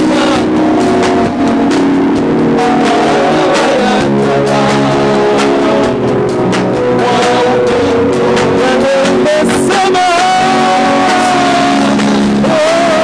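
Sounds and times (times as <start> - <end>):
worship band music: 0.0 - 13.0.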